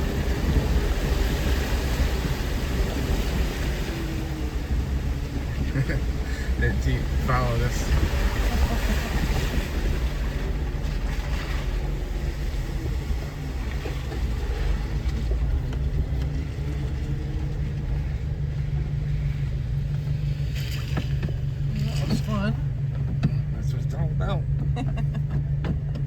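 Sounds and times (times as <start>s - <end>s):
off-road vehicle engine rumbling: 0.0s - 26.0s.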